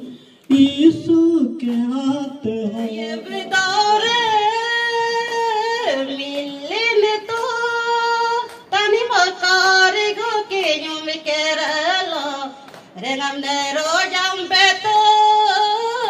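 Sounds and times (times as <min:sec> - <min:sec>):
woman singing into a microphone: 0:00.0 - 0:16.0.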